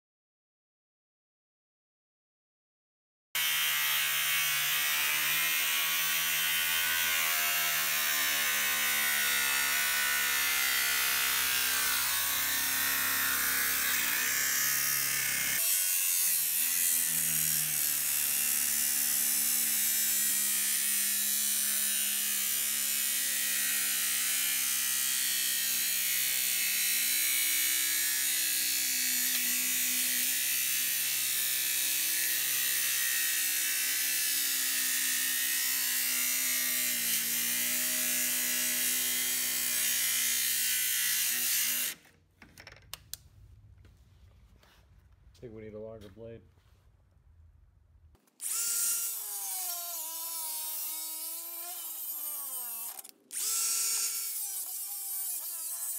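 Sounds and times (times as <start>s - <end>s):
angle grinder cutting steel: 3.4s - 42.0s, 48.3s - 55.9s.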